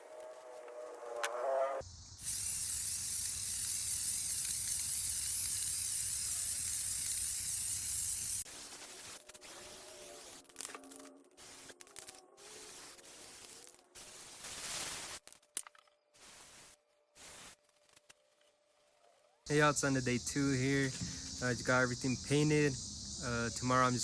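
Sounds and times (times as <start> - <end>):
spray paint hissing: 1.8 - 15.2, 16.2 - 17.6, 19.5 - 24.0.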